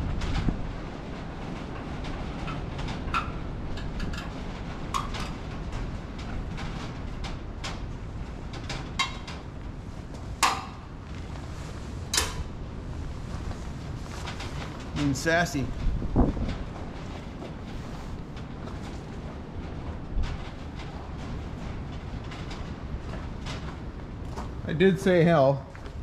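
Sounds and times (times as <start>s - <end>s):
low wind rumble: 0.0s - 26.0s.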